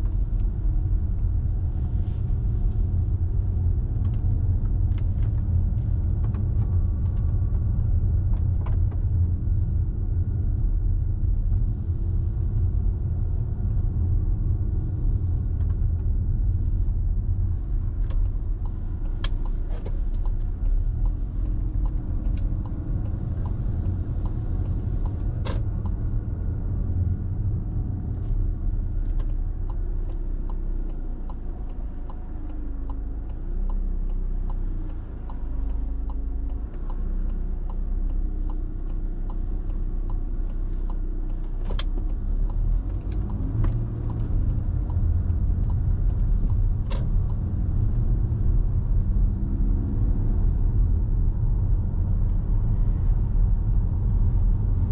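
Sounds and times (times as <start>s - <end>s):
car engine: 0.0s - 54.9s
road noise: 0.0s - 54.9s
turn indicator ticking: 2.3s - 11.8s, 15.4s - 54.9s.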